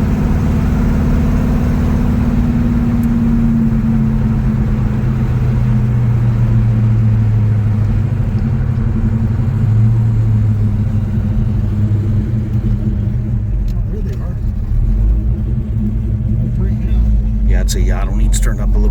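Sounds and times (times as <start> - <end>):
deep engine drone: 0.0 - 18.9.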